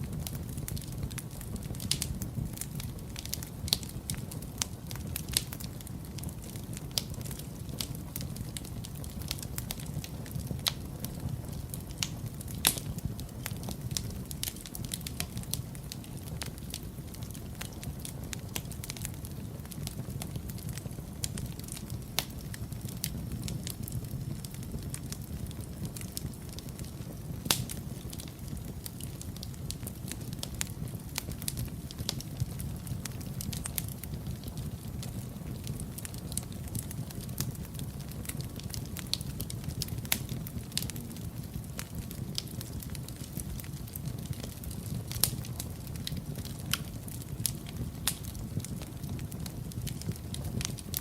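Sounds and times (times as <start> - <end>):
fire crackling and popping: 0.0 - 51.0
low rumble of flames: 0.0 - 51.0.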